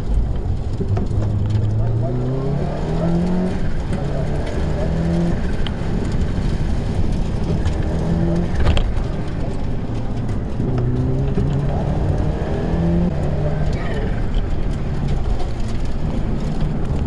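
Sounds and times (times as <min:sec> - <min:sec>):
rally car engine revving: 0:00.0 - 0:17.0
road noise: 0:00.0 - 0:17.0.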